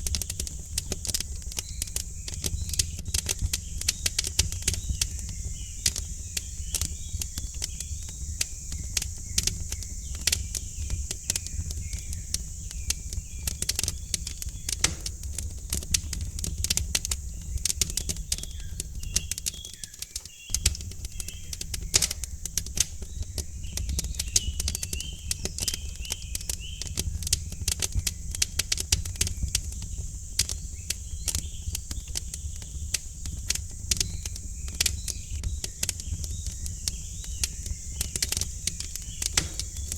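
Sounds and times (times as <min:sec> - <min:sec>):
birds chirping faintly: 0:00.0 - 0:39.9
wood fire crackling: 0:00.0 - 0:39.9.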